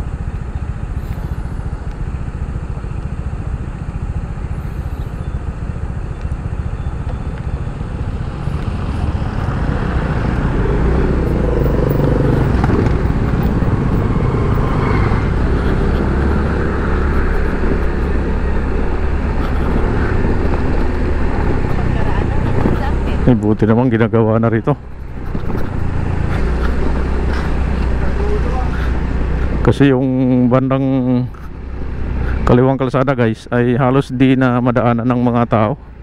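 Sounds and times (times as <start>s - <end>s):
motorcycle engine: 0.0s - 36.0s
road noise: 0.0s - 36.0s.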